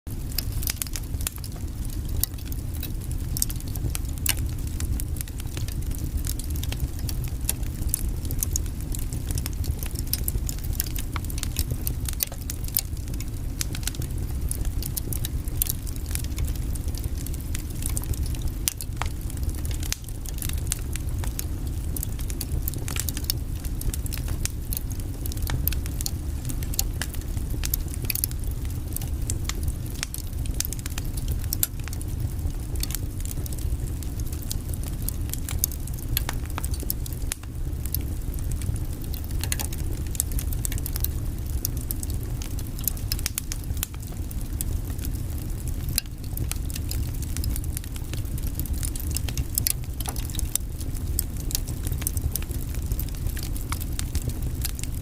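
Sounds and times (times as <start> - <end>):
fire flames rumbling: 0.1 - 55.0
logs crackling and popping: 0.1 - 55.0.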